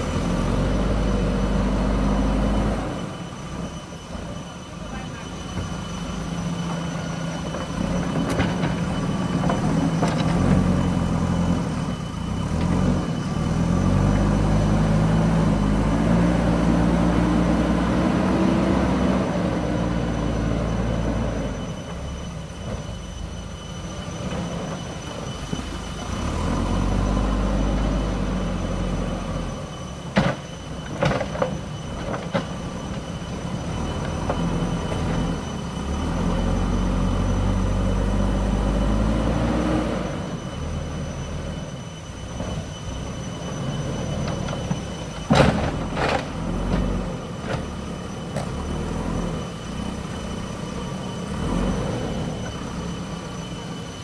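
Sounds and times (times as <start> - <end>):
diesel engine revving: 0.0 - 3.7, 5.6 - 22.2, 23.6 - 31.2, 31.8 - 54.0.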